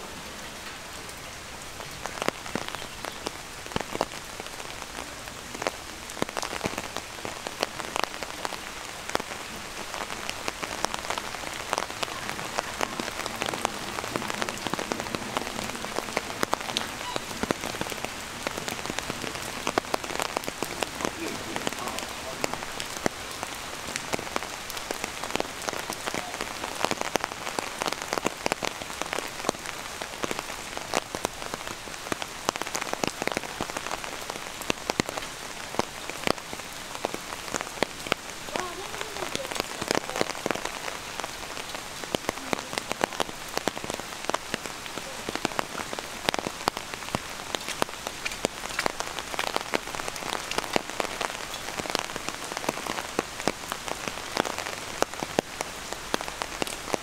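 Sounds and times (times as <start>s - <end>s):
close raindrop hits: 0.0s - 57.0s
steady rain falling: 0.0s - 57.0s.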